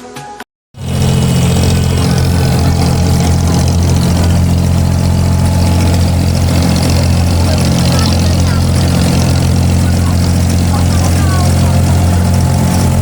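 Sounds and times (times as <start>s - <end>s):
boat diesel engine running: 0.8s - 13.0s.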